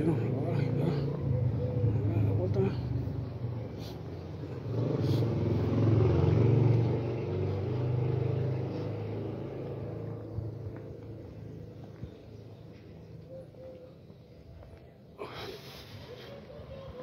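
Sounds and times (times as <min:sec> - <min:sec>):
vehicle engine running: 0:00.0 - 0:15.1.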